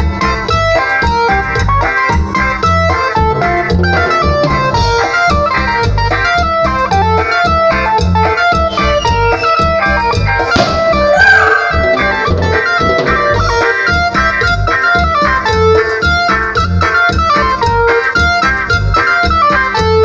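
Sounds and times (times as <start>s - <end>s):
bass and drum beat: 0.0s - 20.0s
plucked guitar melody: 0.0s - 20.0s.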